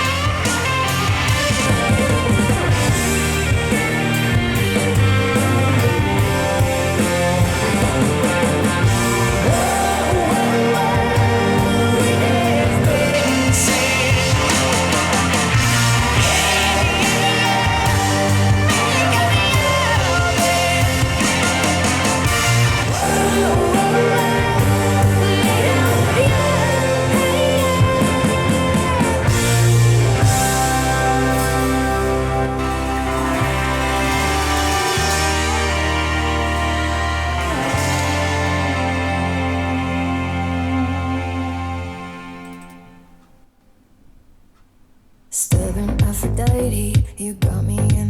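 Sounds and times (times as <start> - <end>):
rock music over loudspeakers: 0.0 - 43.0.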